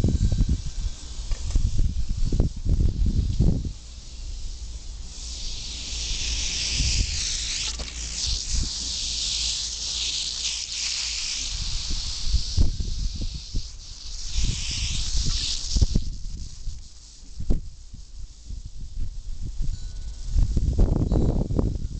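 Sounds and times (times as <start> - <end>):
rattlesnake rattle buzzing: 0.0 - 20.8.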